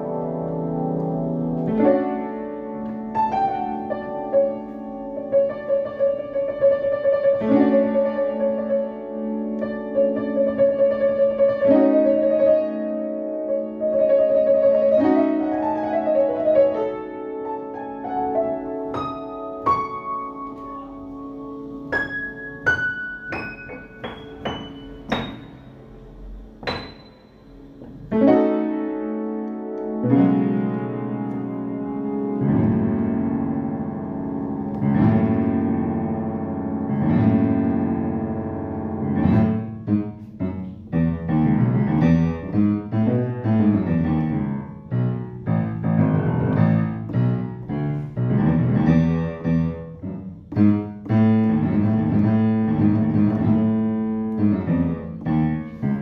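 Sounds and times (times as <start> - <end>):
keyboard chords and notes: 0.0 - 56.0.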